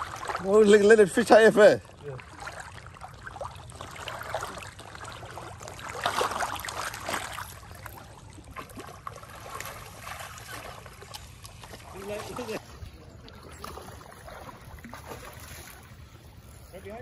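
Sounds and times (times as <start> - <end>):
river water splashing: 0.0 - 17.0.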